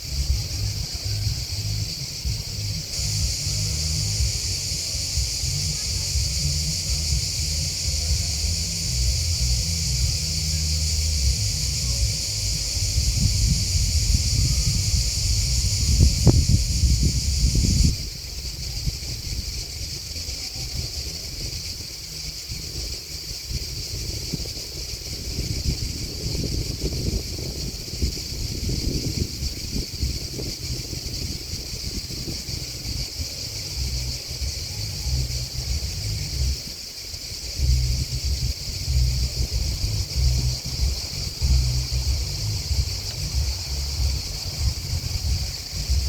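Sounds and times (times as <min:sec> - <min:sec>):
grasshoppers and crickets chirping: 0:00.0 - 0:46.0
wind buffeting microphone: 0:00.0 - 0:46.0.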